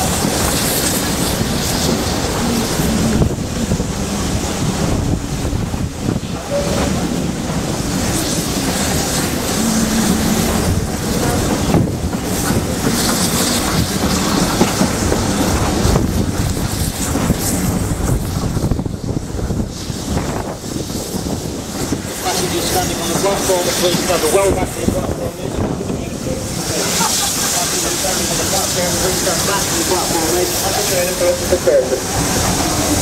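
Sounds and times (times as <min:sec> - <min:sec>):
train carriages rolling over rails: 0:00.0 - 0:33.0
wind rumbling on microphone: 0:00.0 - 0:33.0.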